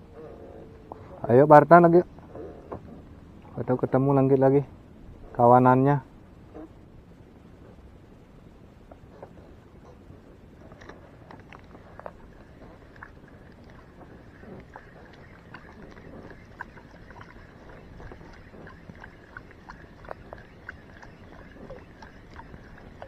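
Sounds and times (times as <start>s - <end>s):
wind and sea rumble: 0.0s - 23.0s.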